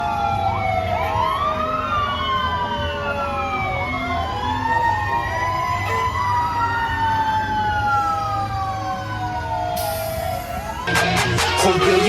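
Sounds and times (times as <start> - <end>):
fire truck sirens wailing: 0.0 - 12.0
truck engine rumble: 0.0 - 12.0.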